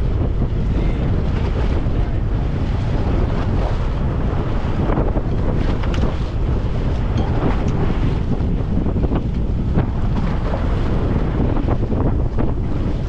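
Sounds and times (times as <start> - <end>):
waves washing along hull: 0.0 - 13.0
wind buffeting microphone: 0.0 - 13.0.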